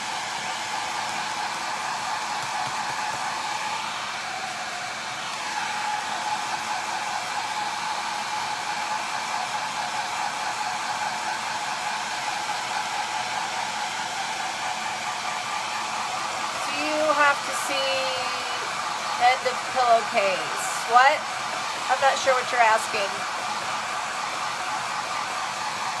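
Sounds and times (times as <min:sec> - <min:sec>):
hair dryer blowing: 0:00.0 - 0:26.0.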